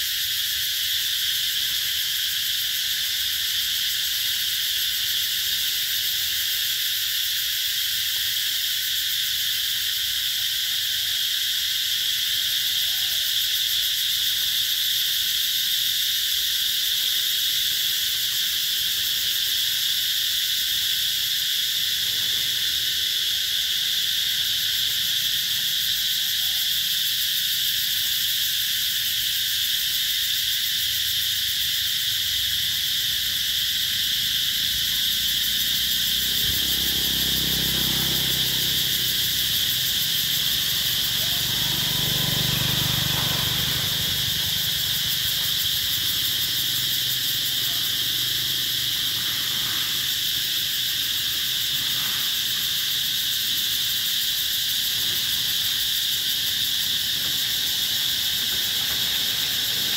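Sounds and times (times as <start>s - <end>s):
cicadas singing: 0.0s - 59.9s.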